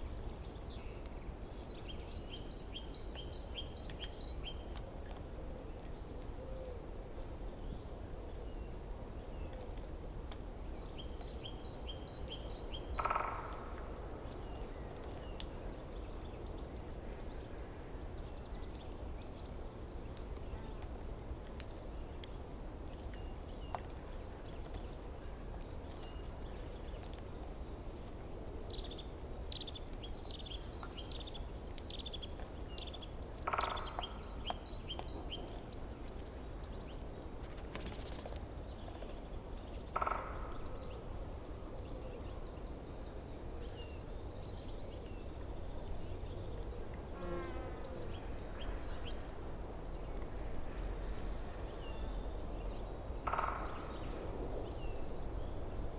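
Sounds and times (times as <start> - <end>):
songbird singing: 0.0 - 9.9, 10.6 - 21.1, 21.7 - 55.9.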